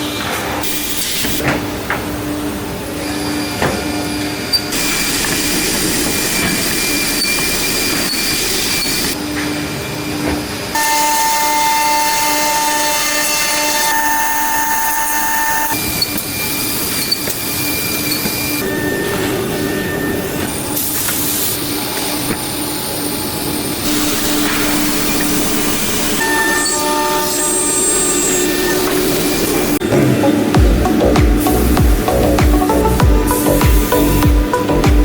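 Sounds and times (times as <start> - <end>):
woodworking machine cutting hiss: 3.1 - 9.2, 10.8 - 34.8.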